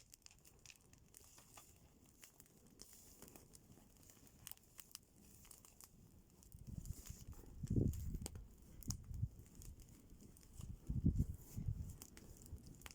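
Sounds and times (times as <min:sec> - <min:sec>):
faint crackles and rustles: 0:00.0 - 0:12.9.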